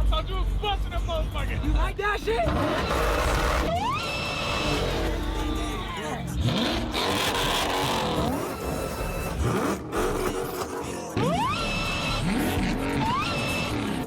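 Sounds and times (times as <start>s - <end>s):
car engine accelerating hard: 0.0s - 14.0s
high supercharger whine: 0.0s - 14.0s.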